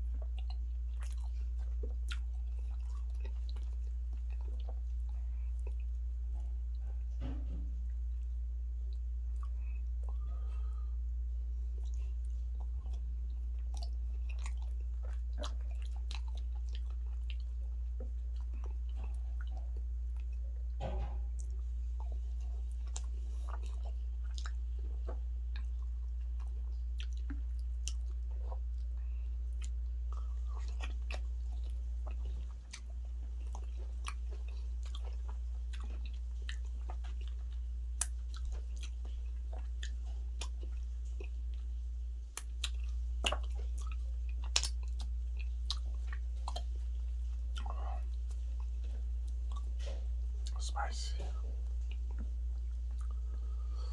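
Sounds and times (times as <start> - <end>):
wet chewing and mouth smacks: 0.0 - 7.1, 8.9 - 10.7, 11.7 - 50.7, 51.6 - 53.9
steady low hum: 0.0 - 53.9.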